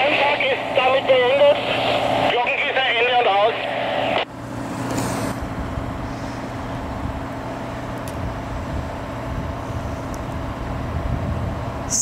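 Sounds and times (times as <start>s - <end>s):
low mechanical rumble: 0.0s - 12.0s
steady tonal hum: 0.0s - 12.0s.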